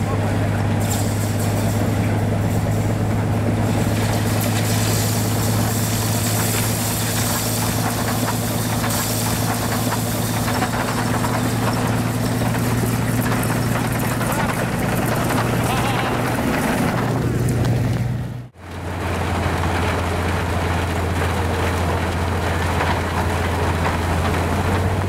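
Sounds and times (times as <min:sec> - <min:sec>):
snow plow engine drone: 0:00.0 - 0:25.0.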